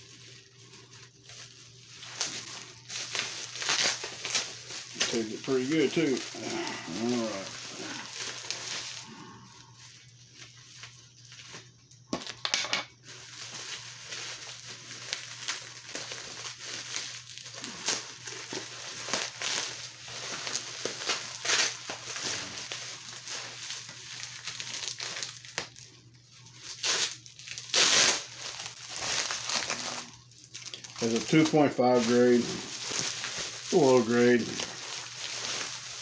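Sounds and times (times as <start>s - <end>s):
bubble wrap crinkling: 0.0s - 36.0s.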